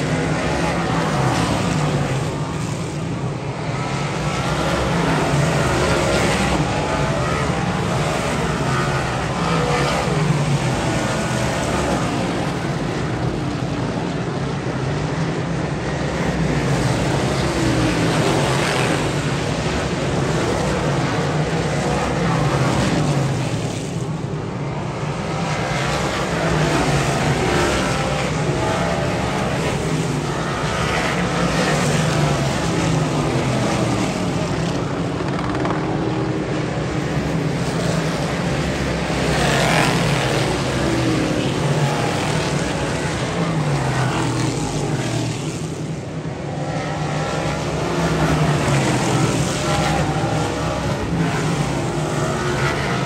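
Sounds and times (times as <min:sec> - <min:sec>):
race car engines passing: 0:00.0 - 0:53.0.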